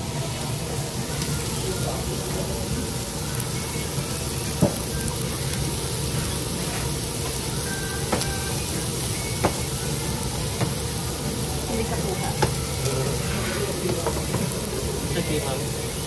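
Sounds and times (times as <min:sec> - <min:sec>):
restaurant background hiss: 0:00.0 - 0:16.0.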